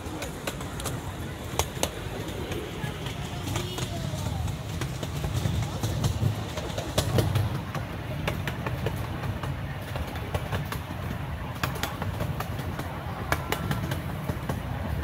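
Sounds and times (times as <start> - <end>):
train rumbling on track: 0.0 - 15.0
wheels clacking on rails: 0.0 - 15.0.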